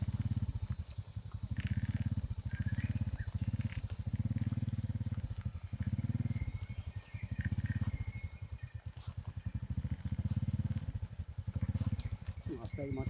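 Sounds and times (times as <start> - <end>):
motorbike engine puttering: 0.0 - 13.0.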